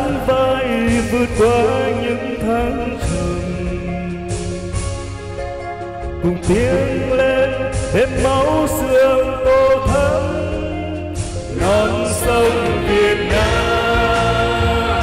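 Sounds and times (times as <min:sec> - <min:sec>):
loud backing track: 0:00.0 - 0:15.0
person singing live: 0:00.0 - 0:15.0.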